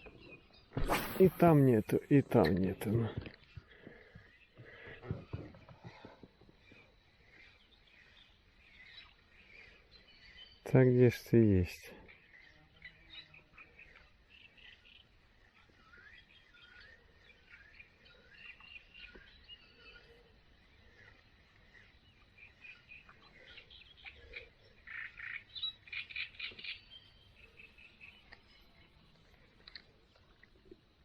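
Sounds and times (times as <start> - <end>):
songbirds chirping and singing: 0.0 - 31.0.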